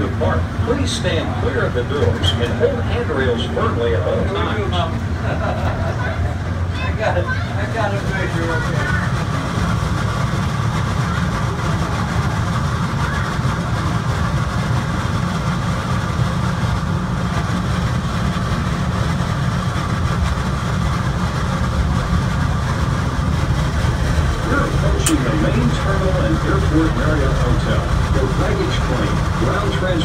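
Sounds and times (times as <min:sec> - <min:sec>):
low rumble of running gear: 0:00.0 - 0:30.0.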